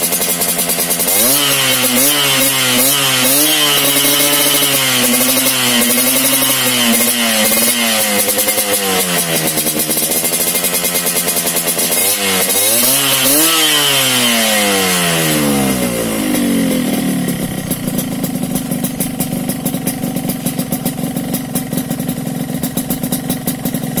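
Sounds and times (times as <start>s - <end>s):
motorcycle engine idling: 0.0s - 24.0s
motorcycle engine revving: 0.0s - 24.0s.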